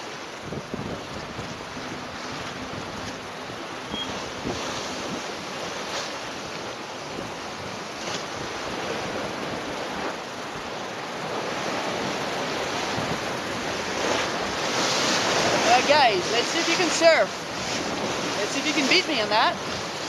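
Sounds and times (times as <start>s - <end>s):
bow wave rushing along hull: 0.0s - 20.0s
wind buffeting microphone: 0.0s - 20.0s.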